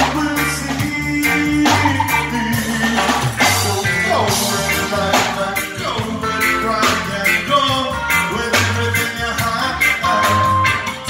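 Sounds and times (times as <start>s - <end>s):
bass guitar: 0.0s - 11.0s
drum kit beat: 0.0s - 11.0s
electric guitars: 0.0s - 11.0s
keyboard: 0.0s - 11.0s
lead vocal singing: 0.0s - 11.0s.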